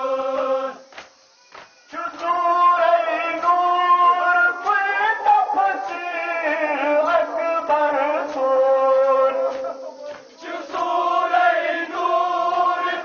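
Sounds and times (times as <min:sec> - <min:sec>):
voices chanting a lament: 0:00.0 - 0:13.0.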